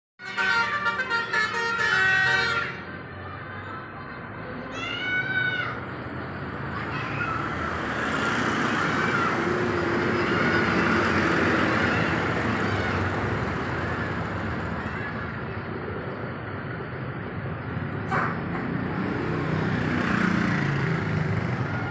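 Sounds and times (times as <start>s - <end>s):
bus passing by: 0.3s - 21.9s.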